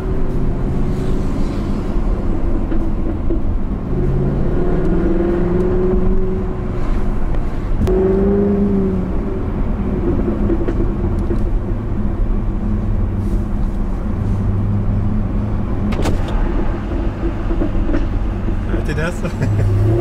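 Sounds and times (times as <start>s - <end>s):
car engine cruising: 0.0s - 20.0s.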